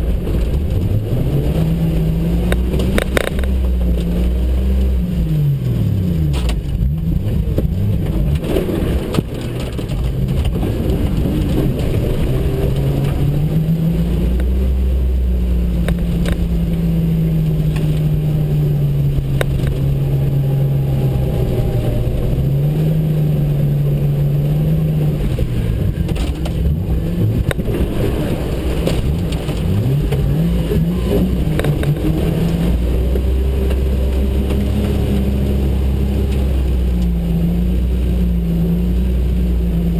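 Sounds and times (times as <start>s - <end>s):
car engine revving: 0.0s - 39.9s
low engine rumble: 0.0s - 39.9s.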